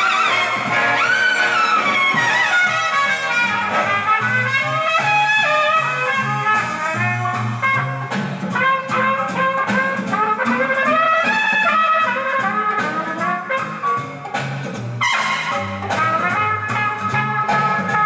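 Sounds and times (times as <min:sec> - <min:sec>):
swing jazz with brass: 0:00.0 - 0:18.0.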